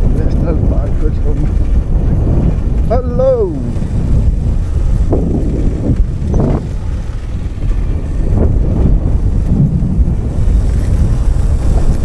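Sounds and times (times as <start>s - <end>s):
vehicle noise: 0.0s - 12.0s
wind buffeting microphone: 0.0s - 12.0s.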